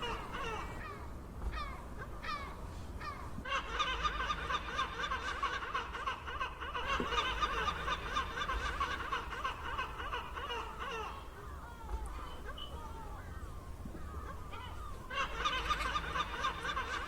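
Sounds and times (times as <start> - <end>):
seagulls calling: 0.0 - 17.0.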